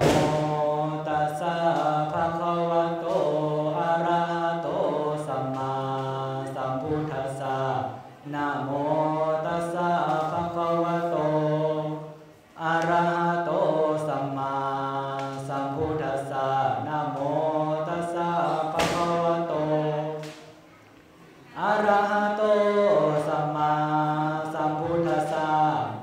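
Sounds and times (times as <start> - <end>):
man chanting into a microphone: 0.0 - 20.2, 21.5 - 26.0.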